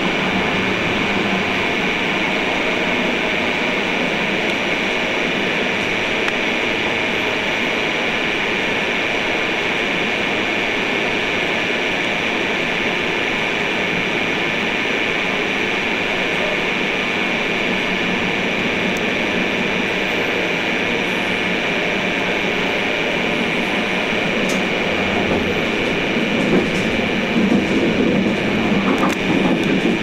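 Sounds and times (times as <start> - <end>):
train running noise from cab: 0.0 - 30.0.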